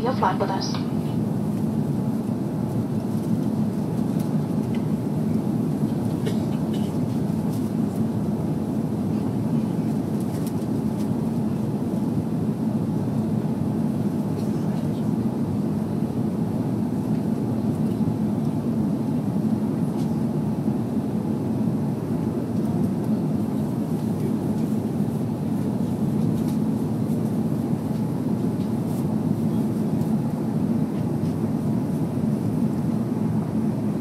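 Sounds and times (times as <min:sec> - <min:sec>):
jet engines rumbling in cabin: 0:00.0 - 0:34.0.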